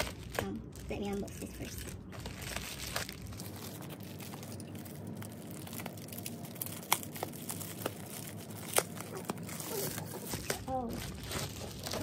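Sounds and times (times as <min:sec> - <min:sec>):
plastic mailer crinkling: 0:00.0 - 0:12.0
sharp plastic crackles: 0:00.0 - 0:12.0.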